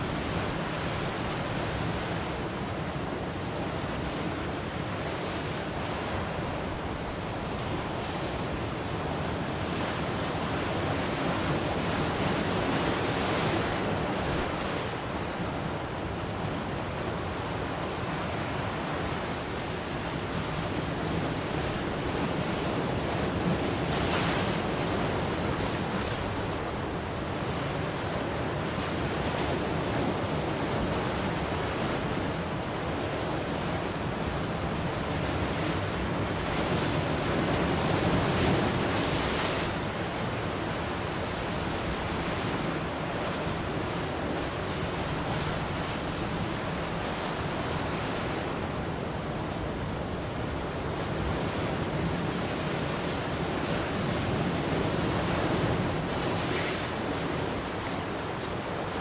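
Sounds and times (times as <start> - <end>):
ocean surf waves breaking: 0.0 - 59.0.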